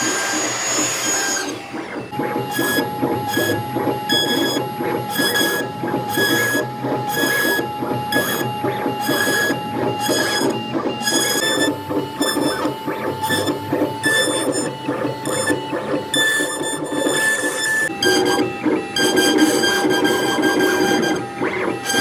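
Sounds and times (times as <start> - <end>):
router cutting wood: 0.0 - 22.0
stepper motors whining: 0.0 - 22.0.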